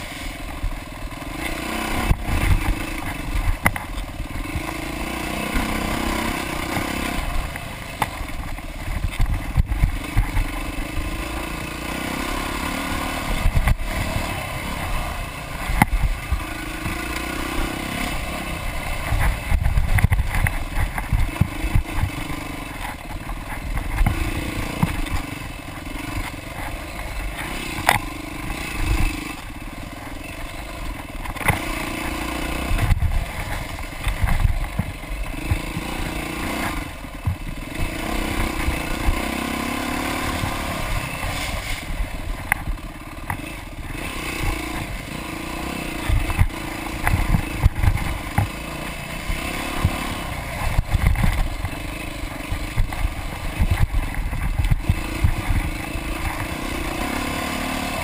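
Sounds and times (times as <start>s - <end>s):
bike knocking and clattering: 0.0s - 12.2s, 12.8s - 58.0s
dirt bike engine revving: 0.0s - 58.0s.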